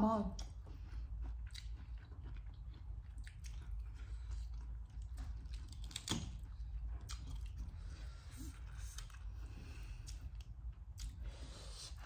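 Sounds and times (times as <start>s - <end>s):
crunchy chewing: 0.4s - 12.0s.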